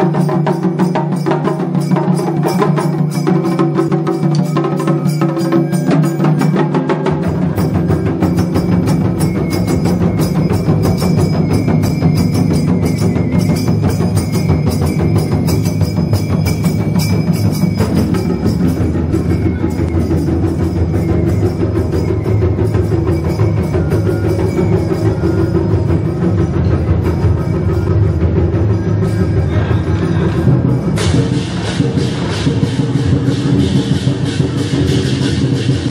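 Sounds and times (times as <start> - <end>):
held high tone: 0.0 - 32.8
fast percussion drumming: 0.0 - 35.9.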